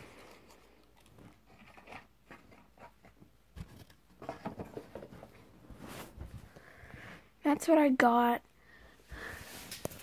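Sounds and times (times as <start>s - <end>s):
rustling and handling noises: 0.0s - 7.2s, 9.1s - 10.0s.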